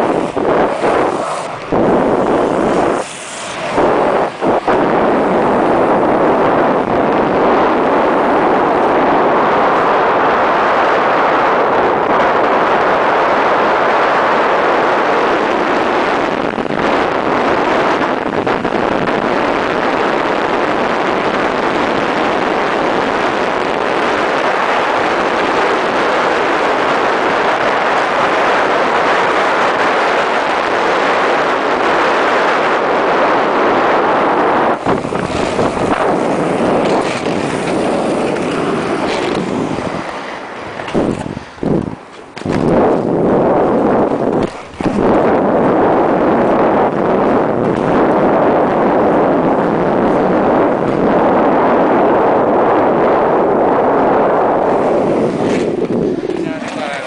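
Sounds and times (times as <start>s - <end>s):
skate wheels rolling on asphalt: 0.0s - 57.0s
wind rushing on microphone: 0.0s - 57.0s.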